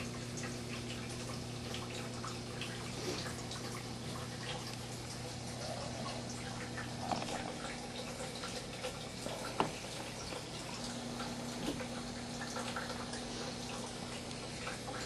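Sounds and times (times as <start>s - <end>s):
steady low hum: 0.0s - 15.0s
water dripping and trickling: 0.0s - 15.0s.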